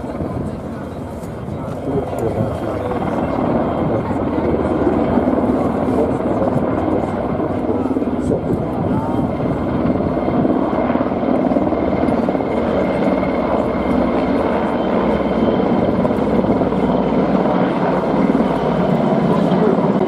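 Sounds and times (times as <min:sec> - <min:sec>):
helicopters flying over: 0:00.0 - 0:20.0.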